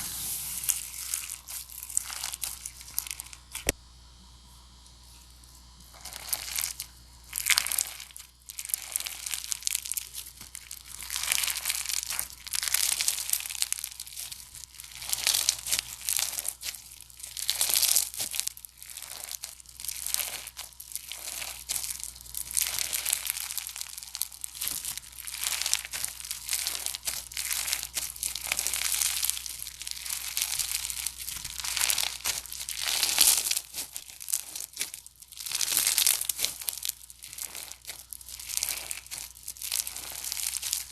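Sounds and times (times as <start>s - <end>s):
slime squeezed and crackling: 0.0s - 3.7s, 5.8s - 40.9s.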